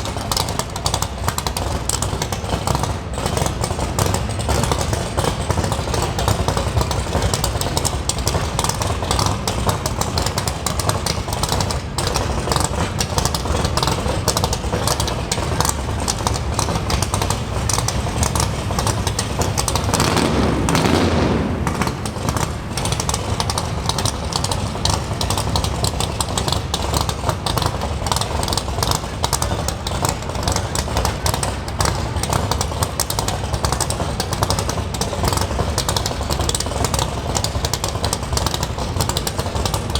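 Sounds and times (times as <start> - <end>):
car exhaust rumbling: 0.0 - 39.9.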